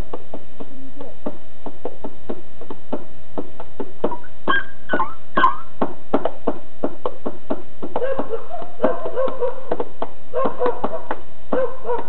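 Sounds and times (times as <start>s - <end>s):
hand-tapped beat: 0.0s - 12.0s.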